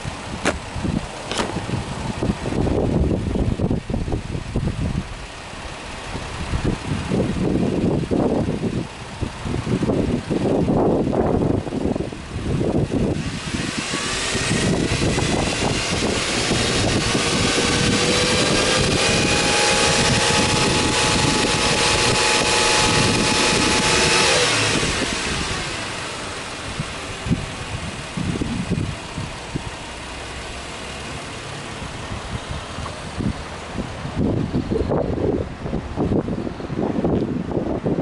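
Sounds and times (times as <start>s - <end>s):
car engine revving: 5.6s - 36.1s.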